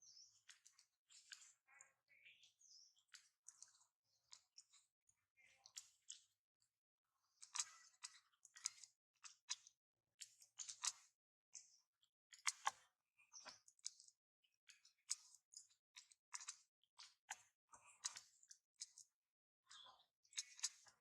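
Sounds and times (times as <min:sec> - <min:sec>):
faint clicks and smacks: 0:00.1 - 0:21.0.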